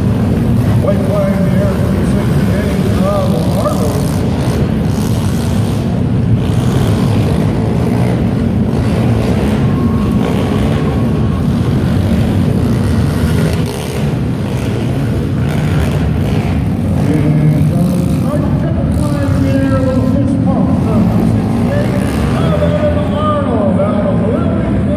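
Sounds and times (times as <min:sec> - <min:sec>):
pit bike engines droning: 0:00.0 - 0:24.9.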